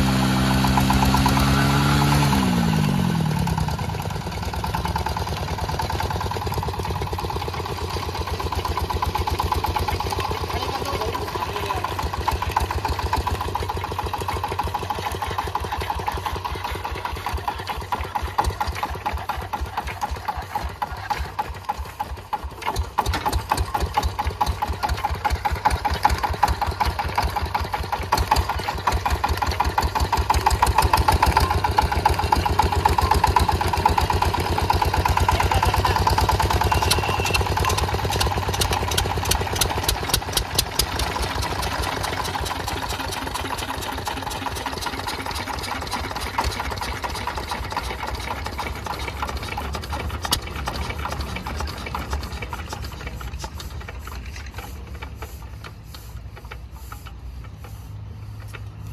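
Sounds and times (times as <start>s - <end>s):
diesel engine chugging: 0.0s - 58.9s.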